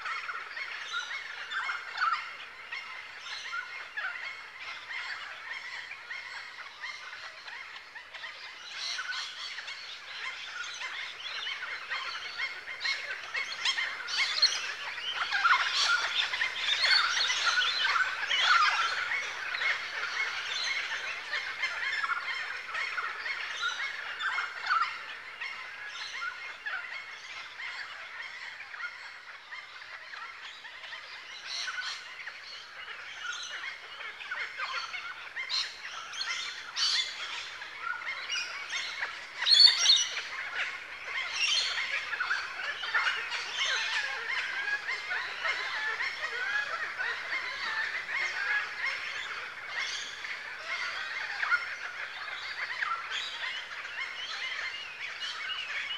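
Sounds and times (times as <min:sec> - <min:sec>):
many birds chattering and calling: 0:00.0 - 0:55.9.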